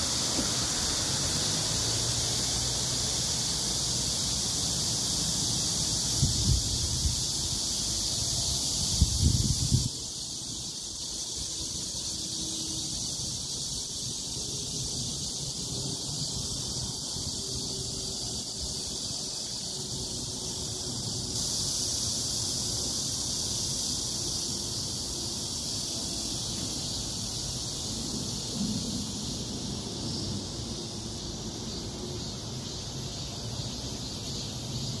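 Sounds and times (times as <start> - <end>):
high-pitched insect chorus: 0.0 - 35.0
rustling leaves: 0.0 - 35.0
wind: 0.0 - 35.0.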